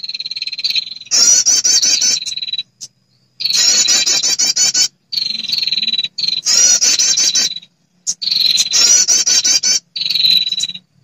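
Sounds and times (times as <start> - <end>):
high bird trill: 0.0 - 11.0.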